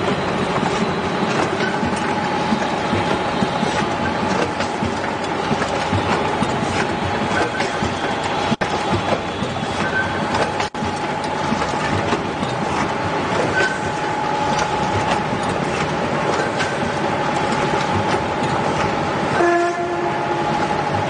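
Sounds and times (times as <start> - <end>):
packaging machinery clattering: 0.0 - 19.4
machine whine: 0.0 - 21.0.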